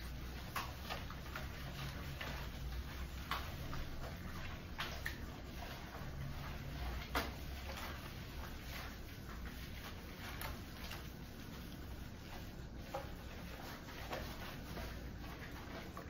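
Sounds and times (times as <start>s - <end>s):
wet lather squishing: 0.0s - 16.0s.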